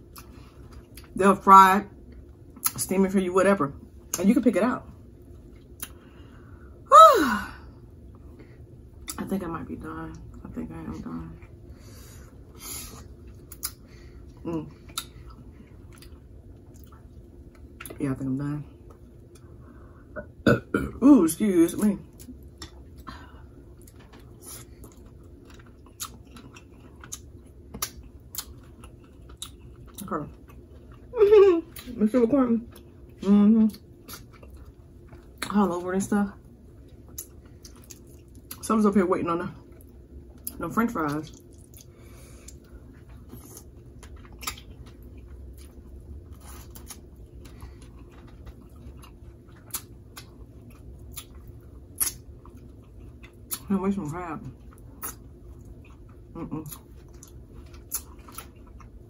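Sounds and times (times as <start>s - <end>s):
eating and chewing sounds: 0.0s - 1.2s, 5.0s - 6.7s, 10.1s - 20.9s, 21.7s - 38.9s, 39.5s - 59.0s
low hum: 0.0s - 59.0s.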